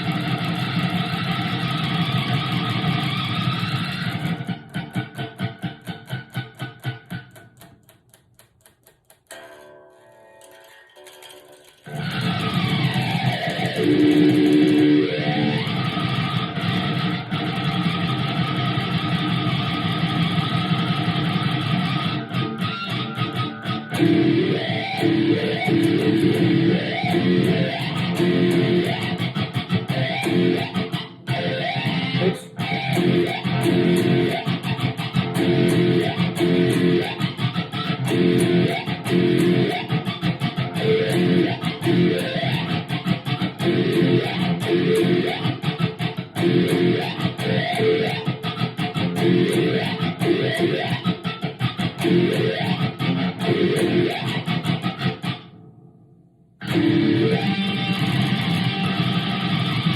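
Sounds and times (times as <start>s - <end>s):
electric guitar with wah pedal: 0.0s - 8.0s, 9.3s - 55.7s, 56.6s - 59.9s.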